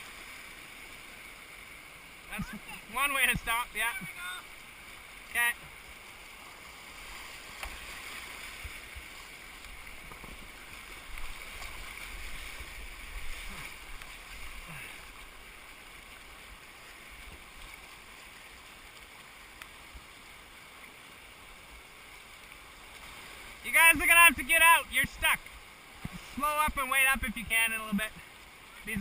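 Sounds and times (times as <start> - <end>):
creek water running over rocks: 0.0 - 29.0.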